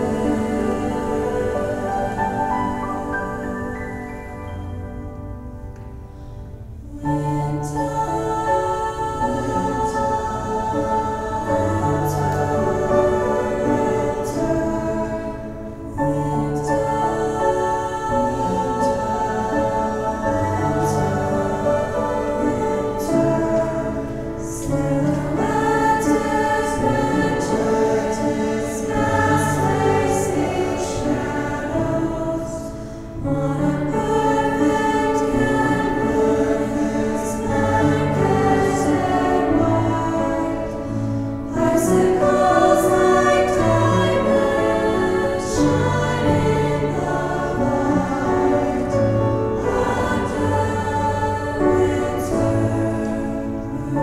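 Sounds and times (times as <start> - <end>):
choir singing in harmony: 0.0 - 54.0.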